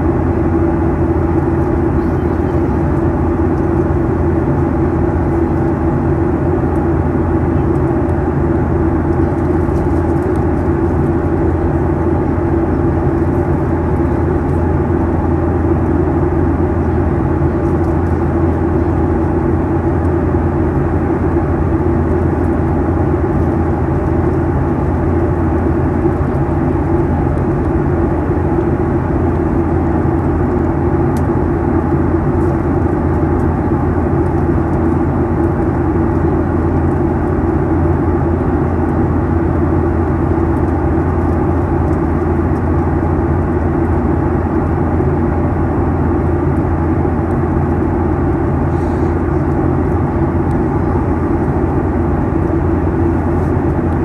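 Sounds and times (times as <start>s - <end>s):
jet engine drone: 0.0s - 54.0s
rushing airflow in cabin: 0.0s - 54.0s.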